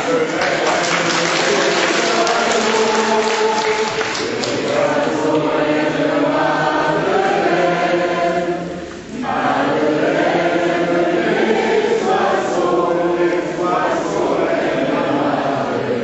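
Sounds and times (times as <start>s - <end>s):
choir singing slow song: 0.0s - 16.0s.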